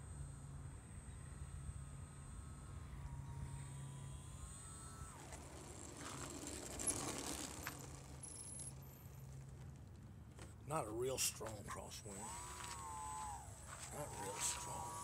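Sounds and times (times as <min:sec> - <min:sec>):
model airplane motor whining: 0:01.0 - 0:15.0
wheels rattling on asphalt: 0:02.8 - 0:15.0.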